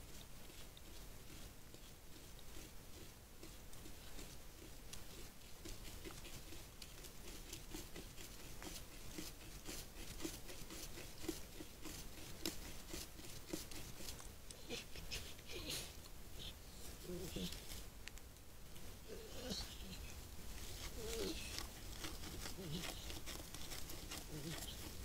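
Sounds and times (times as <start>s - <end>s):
badger scratching and nibbling fur: 0.0s - 25.0s.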